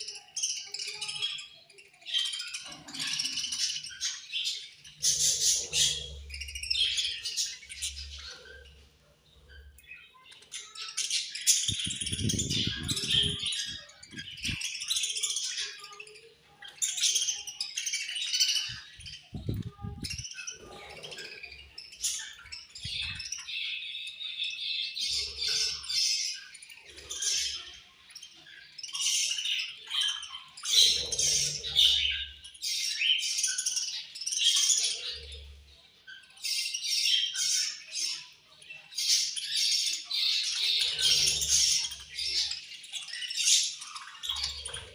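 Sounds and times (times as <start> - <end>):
budgerigars chirping and chattering: 0.0 - 44.9.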